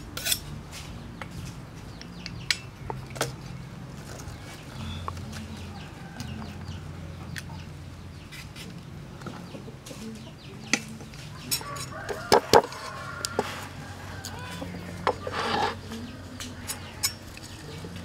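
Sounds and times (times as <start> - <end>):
chickens clucking: 1.0 - 18.0.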